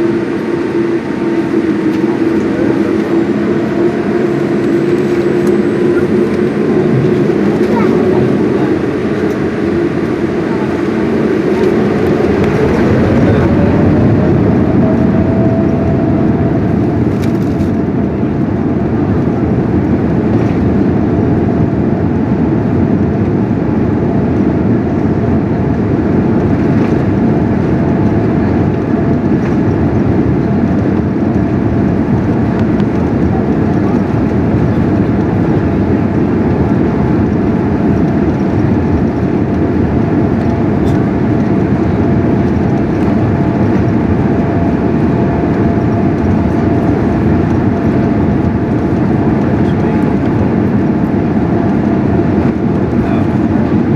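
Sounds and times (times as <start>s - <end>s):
jet engine roar: 0.0s - 53.9s
jet engine whine rising: 0.0s - 53.9s.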